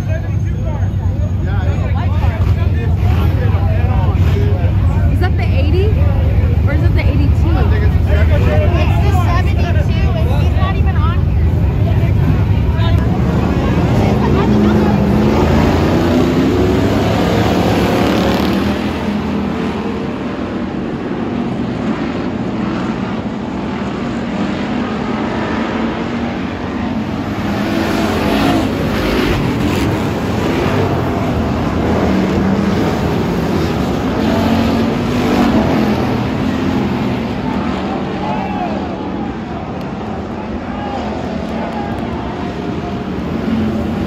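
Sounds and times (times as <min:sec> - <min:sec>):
race car engines: 0:00.0 - 0:44.0.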